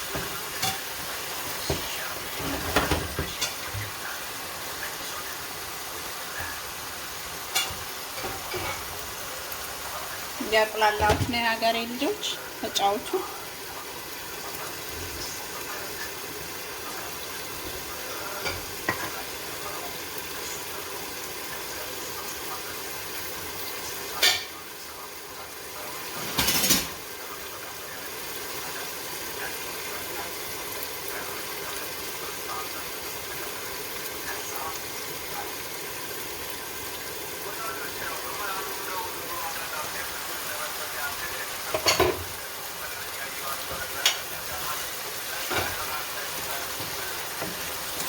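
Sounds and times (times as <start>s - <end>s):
vegetables sizzling in a pot: 0.0s - 48.0s.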